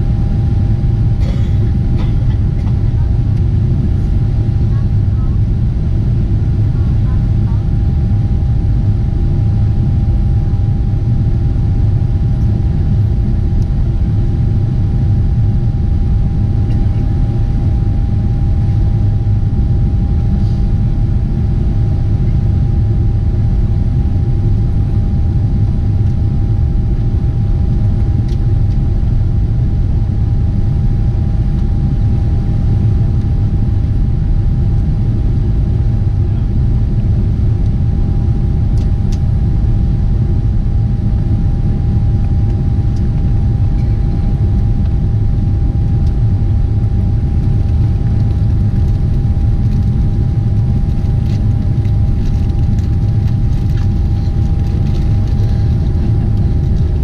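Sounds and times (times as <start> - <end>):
airliner engines and airflow rumble: 0.0 - 57.0
thin constant whine: 0.0 - 57.0.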